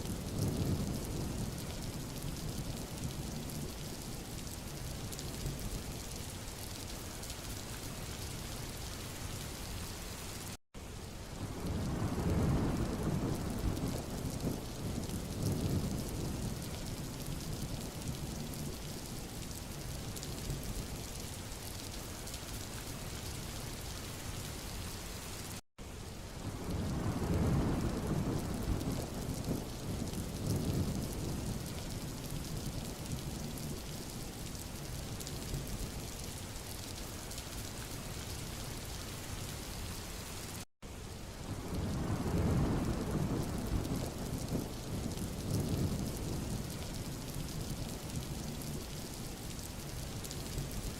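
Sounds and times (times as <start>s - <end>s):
rain hissing on a road: 0.0s - 50.9s.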